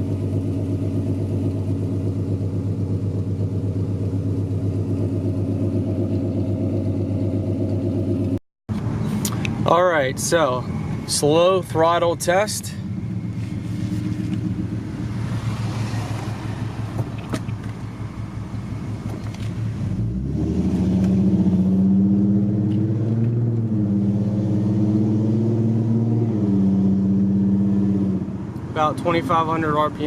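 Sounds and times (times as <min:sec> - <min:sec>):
car exhaust drone: 0:00.0 - 0:30.0.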